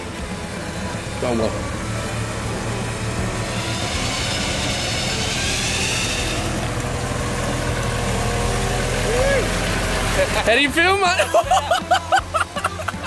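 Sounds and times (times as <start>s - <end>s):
electric winch whine: 0.0s - 13.0s
vehicle engines idling: 0.0s - 13.0s.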